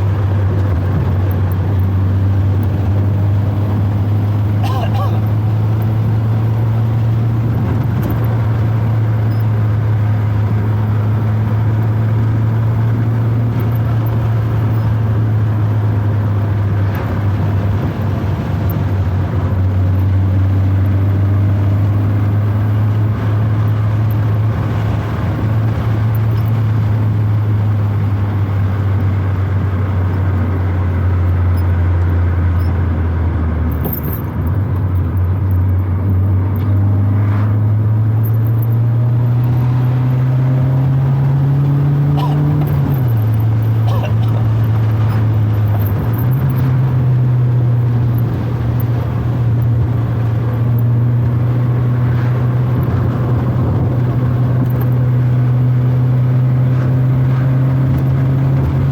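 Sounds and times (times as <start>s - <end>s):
car engine droning: 0.0s - 58.9s
road noise: 0.0s - 58.9s.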